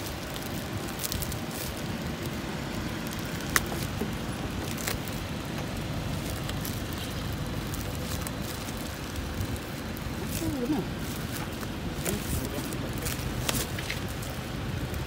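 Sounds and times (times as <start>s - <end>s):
low background rumble: 0.0s - 15.0s
packaging crinkling and tearing: 0.0s - 15.0s.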